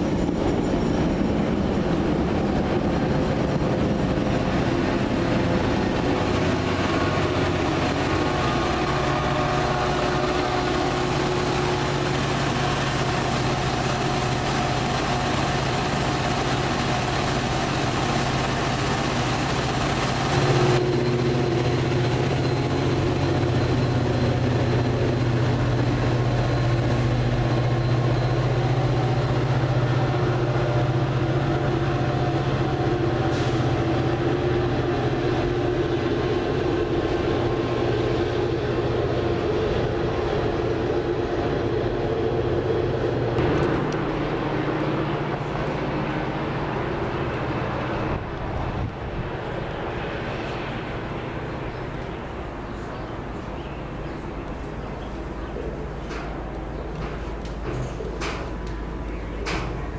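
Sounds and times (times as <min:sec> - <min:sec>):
locomotive engine humming: 0:00.0 - 0:59.9.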